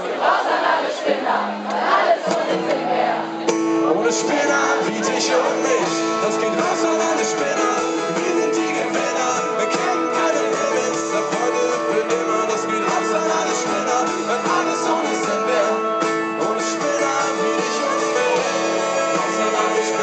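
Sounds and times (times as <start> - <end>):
strummed guitars: 1.4 - 20.0
pop-rock band playing live: 3.4 - 20.0.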